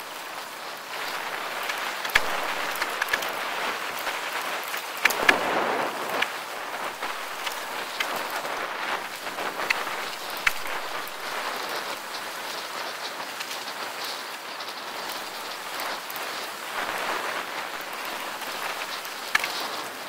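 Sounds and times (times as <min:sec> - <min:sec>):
bicycle tyres crunching on stony trail: 0:00.9 - 0:20.0
stones and bike rattling: 0:01.0 - 0:20.0.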